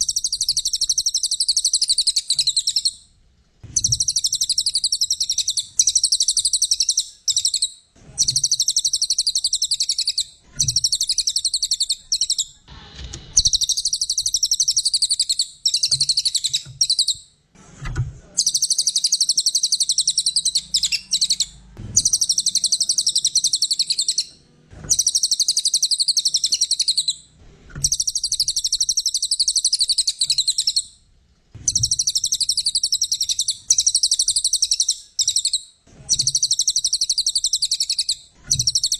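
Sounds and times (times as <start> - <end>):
songbird rapid high chattering song: 0.0 - 3.0, 3.8 - 12.6, 13.4 - 17.2, 18.4 - 27.2, 27.8 - 30.9, 31.6 - 38.9.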